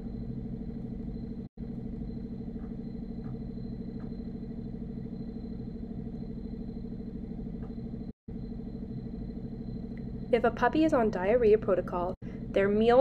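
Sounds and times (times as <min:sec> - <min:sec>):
low pulsing mechanical hum: 0:00.0 - 0:13.0.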